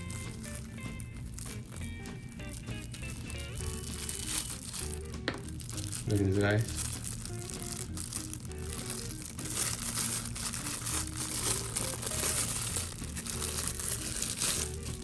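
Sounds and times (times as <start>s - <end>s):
packaging crinkling: 0.0s - 15.0s
soft background music: 0.0s - 15.0s.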